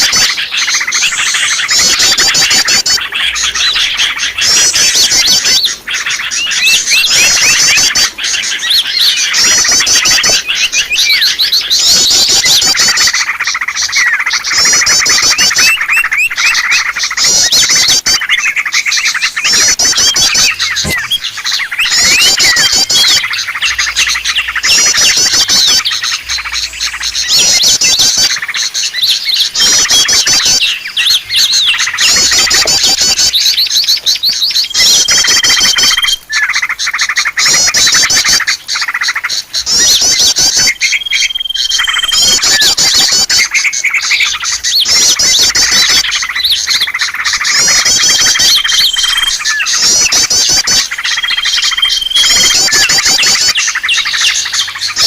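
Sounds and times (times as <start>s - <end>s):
songbirds chattering and twittering: 0.0s - 55.0s
steady bird whistle: 0.0s - 55.0s.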